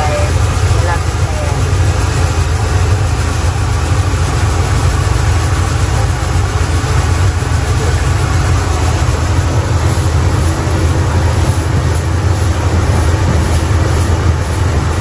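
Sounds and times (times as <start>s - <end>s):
rice milling machine humming: 0.0s - 15.0s.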